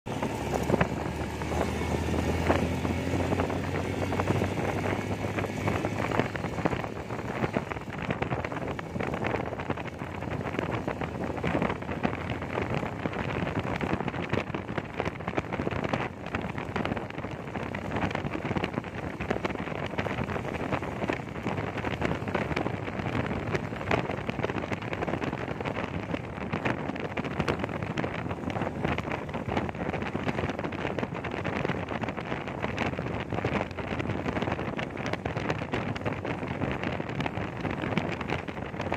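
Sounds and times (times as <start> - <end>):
low engine hum: 0.0 - 38.9
vehicle road noise: 0.0 - 38.9
wind buffeting microphone: 0.1 - 38.9.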